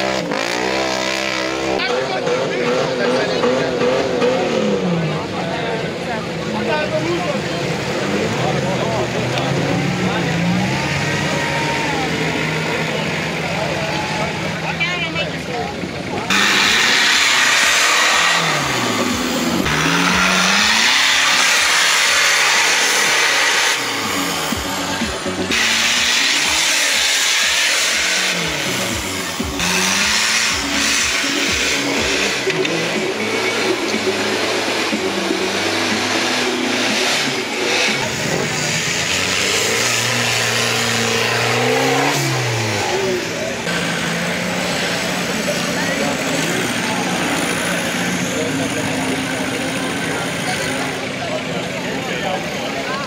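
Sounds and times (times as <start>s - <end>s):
engine revving hard: 0.0s - 53.0s.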